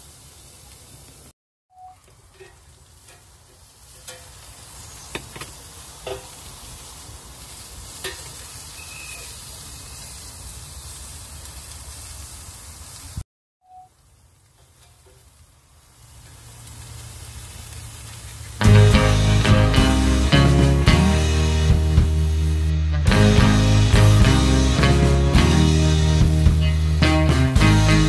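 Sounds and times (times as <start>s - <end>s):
steaks sizzling on a grill: 0.0s - 1.3s, 2.2s - 13.2s, 14.1s - 28.0s.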